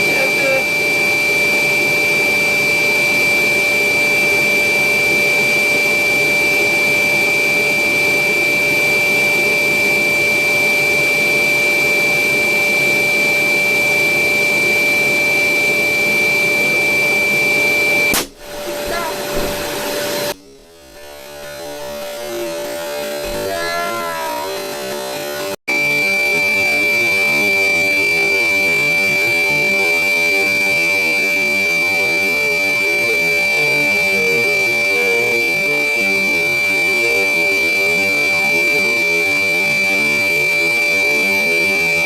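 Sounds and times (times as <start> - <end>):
electric blower whining: 0.0 - 42.0.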